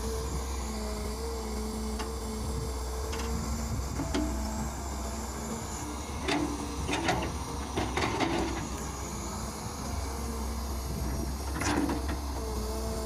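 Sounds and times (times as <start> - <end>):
excavator engine hum: 0.0 - 13.0.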